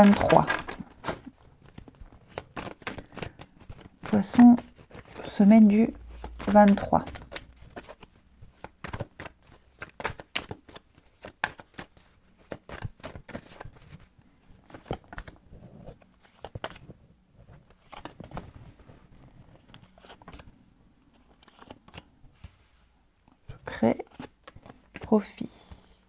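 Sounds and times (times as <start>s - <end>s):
cards being shuffled: 0.0s - 20.5s, 21.1s - 22.7s, 23.9s - 25.2s.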